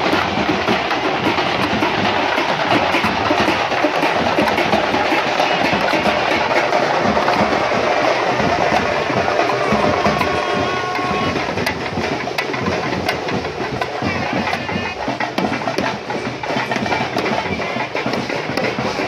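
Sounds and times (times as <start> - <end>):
drums beating steady rhythm: 0.0 - 19.0.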